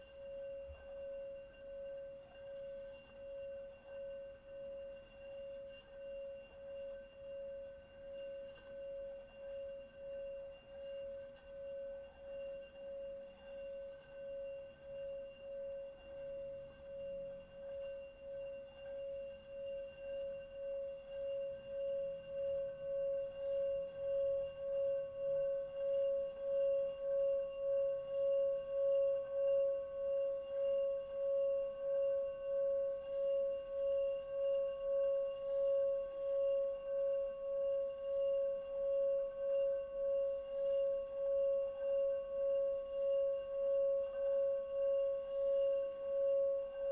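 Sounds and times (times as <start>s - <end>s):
singing bowl ringing: 0.0s - 46.9s.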